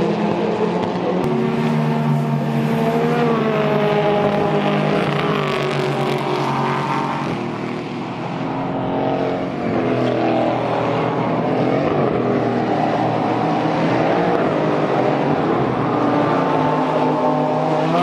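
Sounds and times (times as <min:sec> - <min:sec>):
race car accelerating through gears: 0:00.0 - 0:18.0
race car engine passing by: 0:00.0 - 0:18.0.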